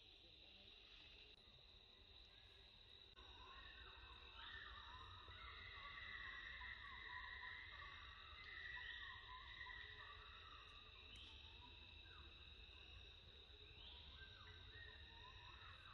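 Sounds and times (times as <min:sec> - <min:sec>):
high-pitched insect chorus: 0:00.0 - 0:15.9.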